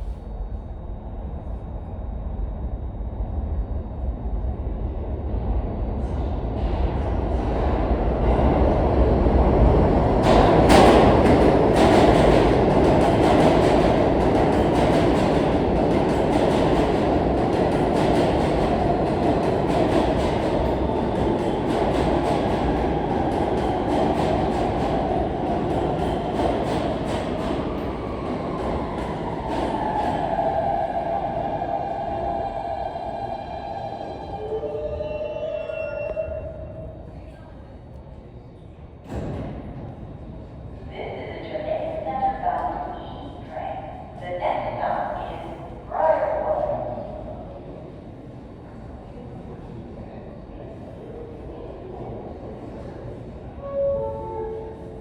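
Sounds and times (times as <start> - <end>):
subway train wheels clicking: 0.0 - 55.0
train rumble: 0.0 - 55.0.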